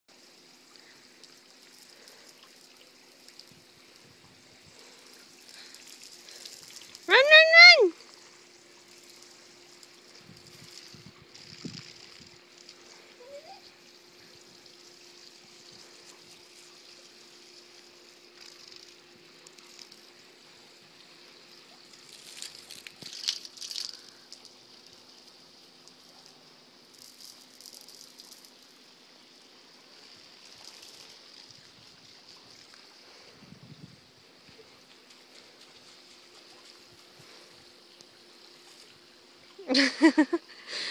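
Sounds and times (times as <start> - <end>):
garden hose spraying: 0.1 - 40.9
water splashing: 0.4 - 33.3.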